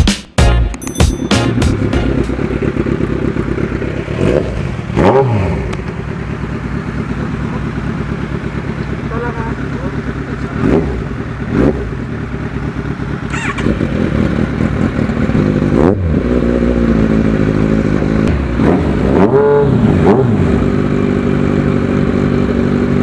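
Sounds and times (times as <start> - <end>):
motorcycle engine revving: 1.4 - 23.0.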